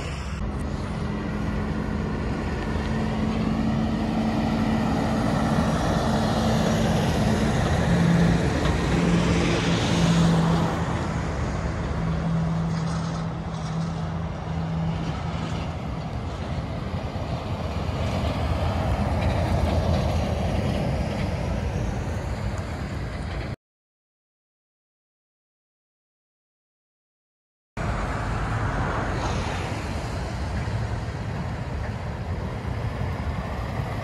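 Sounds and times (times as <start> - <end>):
lorry engine drone: 0.0 - 23.6, 27.8 - 34.0.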